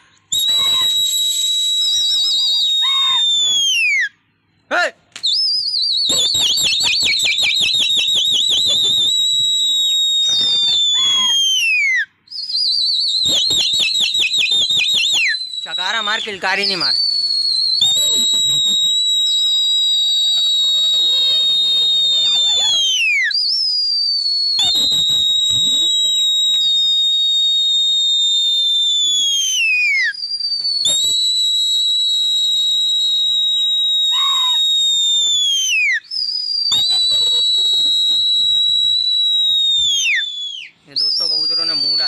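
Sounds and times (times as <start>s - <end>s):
long high whistles: 0.0s - 4.3s, 5.2s - 42.0s.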